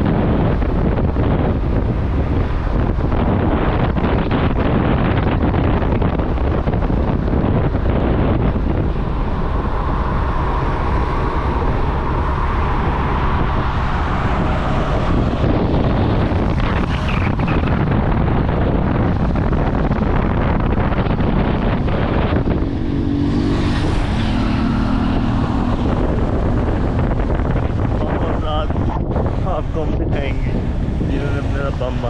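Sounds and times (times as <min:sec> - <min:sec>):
motorcycle engine and road noise: 0:00.0 - 0:32.0
wind rushing over microphone: 0:00.0 - 0:32.0.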